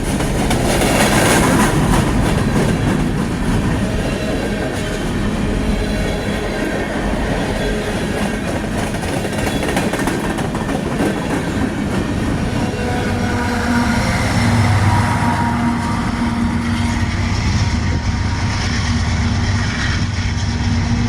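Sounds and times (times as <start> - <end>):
rail clatter: 0.0 - 20.2
diesel locomotive engine hum: 0.0 - 21.0
train wheel rumble: 0.0 - 21.0.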